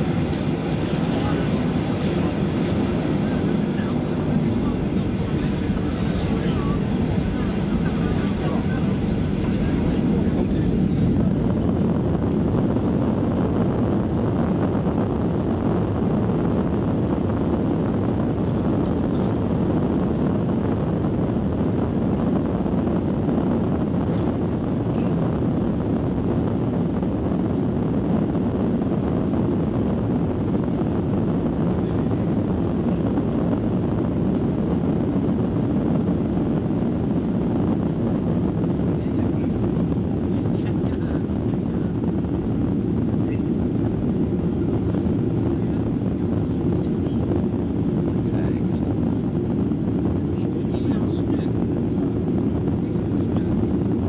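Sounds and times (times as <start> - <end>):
jet engines at take-off power: 0.0 - 54.0.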